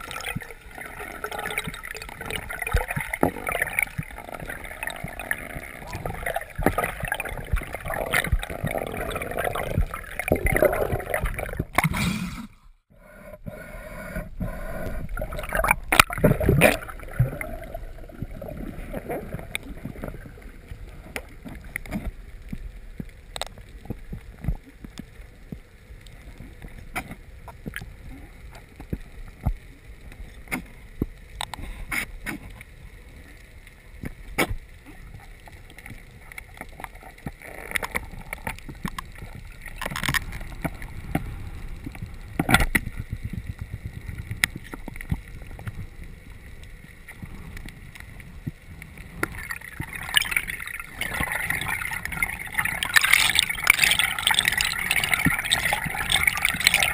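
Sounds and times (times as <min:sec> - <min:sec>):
sharp clicks underwater: 0:00.0 - 0:12.1, 0:14.2 - 0:32.7, 0:34.0 - 0:56.9
water rushing and gurgling underwater: 0:00.0 - 0:12.6, 0:13.2 - 0:56.9.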